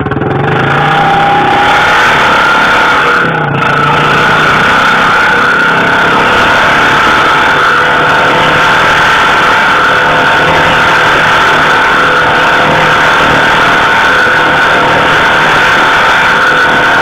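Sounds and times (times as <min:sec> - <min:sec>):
motorcycle engine at steady revs: 0:00.0 - 0:17.0.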